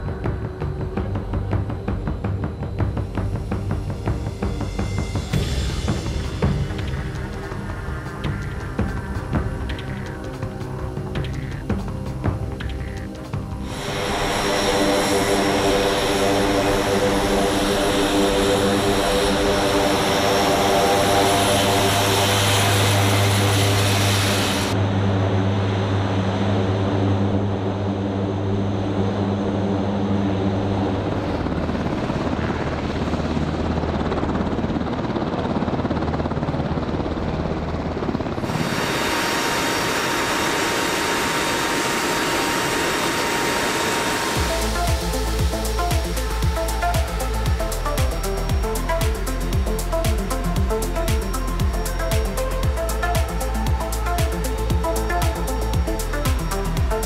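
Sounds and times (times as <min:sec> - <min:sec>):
engines and wind rushing: 0:00.0 - 0:57.0
turboprop engines droning: 0:00.0 - 0:57.0.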